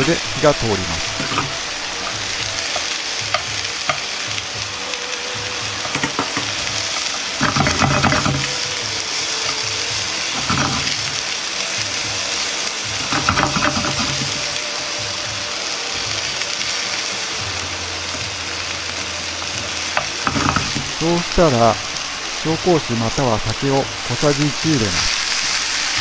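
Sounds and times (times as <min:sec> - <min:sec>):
chopsticks stirring clatter: 0:00.0 - 0:26.0
vegetables sizzling in a frying pan: 0:00.0 - 0:26.0.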